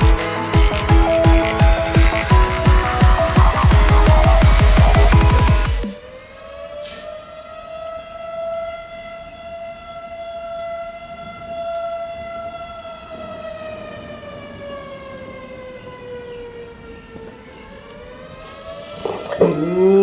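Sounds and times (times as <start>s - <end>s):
warning siren wailing: 0.0s - 20.0s.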